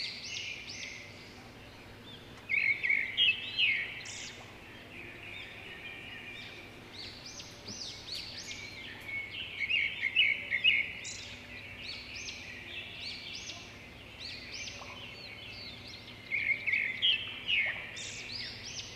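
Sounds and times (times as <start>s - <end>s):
small birds chirping: 0.0s - 18.9s.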